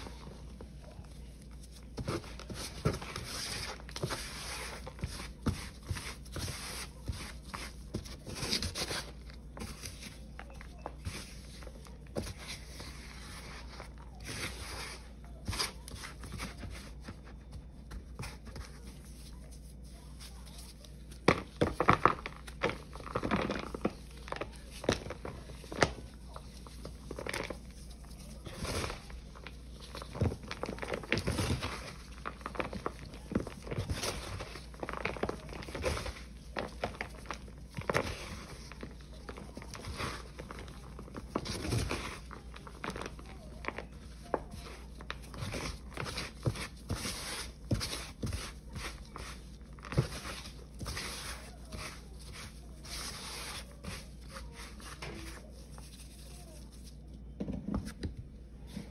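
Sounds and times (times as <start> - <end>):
powder brushing and rustling: 0.0 - 57.2.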